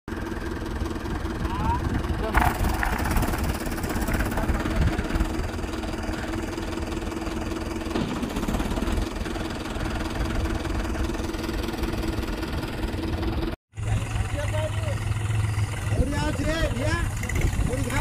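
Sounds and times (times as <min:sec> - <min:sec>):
tractor diesel engine running: 0:00.1 - 0:18.0.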